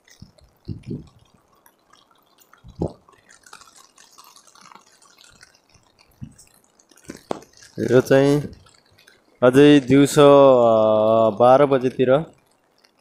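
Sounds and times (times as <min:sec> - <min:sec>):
rain tapping on umbrella: 0:00.0 - 0:13.0.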